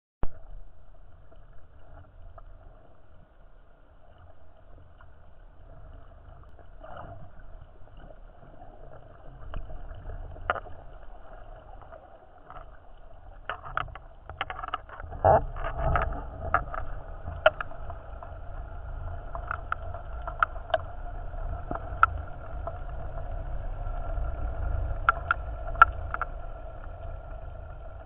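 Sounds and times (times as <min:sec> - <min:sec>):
underwater rumble of moving water: 0:00.2 - 0:28.0
faint clicks: 0:04.0 - 0:23.2, 0:23.9 - 0:27.4.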